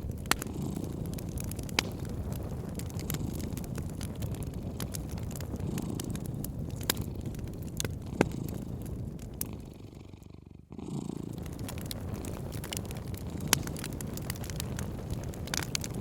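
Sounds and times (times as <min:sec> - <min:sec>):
cat purring: 0:00.0 - 0:16.0
wood fire crackling and popping: 0:00.0 - 0:16.0.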